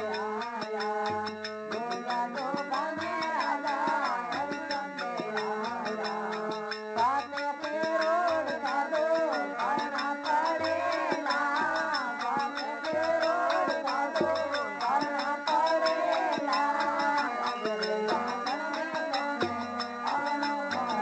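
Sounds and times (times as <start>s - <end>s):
fast percussion beat: 0.0s - 21.0s.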